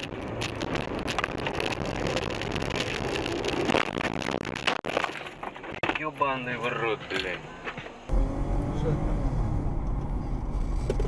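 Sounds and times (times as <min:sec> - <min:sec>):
road and tyre noise: 0:00.0 - 0:11.0.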